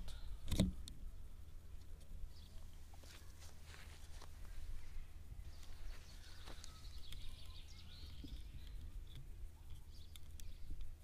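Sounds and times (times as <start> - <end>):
steady low rumble: 0.0 - 11.0
distant bird chirping: 1.6 - 11.0.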